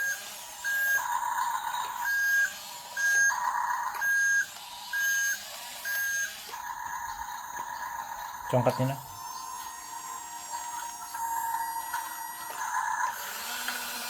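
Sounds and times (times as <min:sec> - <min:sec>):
electronic warning beeps: 0:00.0 - 0:13.2.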